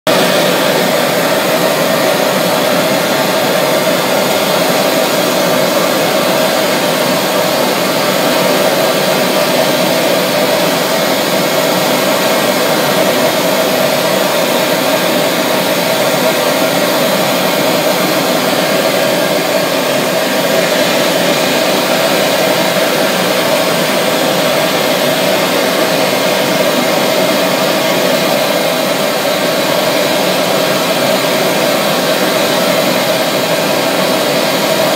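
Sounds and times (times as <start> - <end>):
gas torch flame rushing: 0.2 - 34.9.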